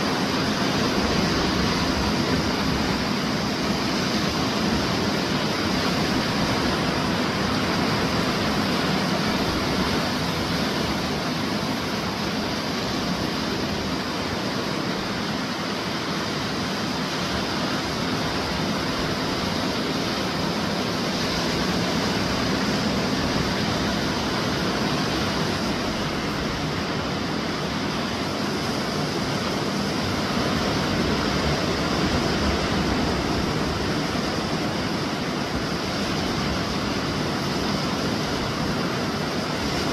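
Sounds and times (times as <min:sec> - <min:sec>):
small waves breaking on sand: 0:00.0 - 0:39.9.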